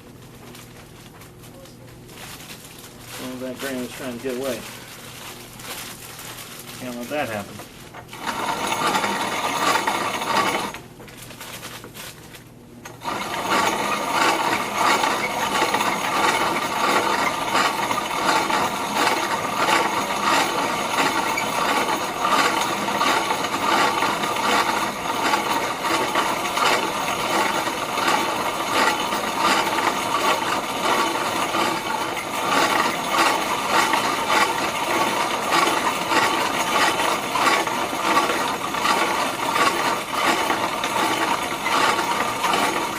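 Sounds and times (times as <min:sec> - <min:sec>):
grain mill crushing grain: 0:02.9 - 0:10.8, 0:12.9 - 0:42.9.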